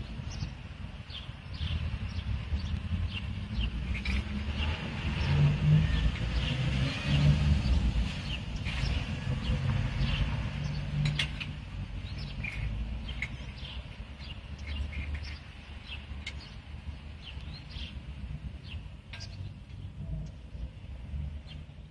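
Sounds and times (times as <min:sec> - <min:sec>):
distant traffic rumble: 0:00.0 - 0:21.9
small birds chirping: 0:00.0 - 0:21.9.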